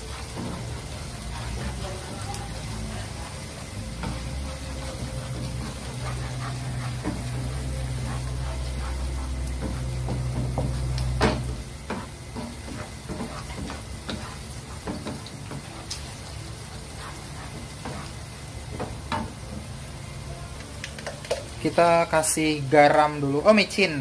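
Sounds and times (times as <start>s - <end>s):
wooden spatula scraping a pan: 0.0s - 19.2s
vegetables sizzling in a wok: 0.0s - 24.0s.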